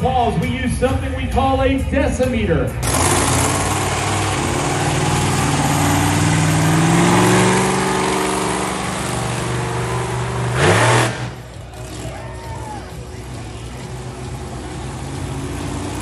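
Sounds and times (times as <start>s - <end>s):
monster truck engine revving: 2.8s - 16.0s.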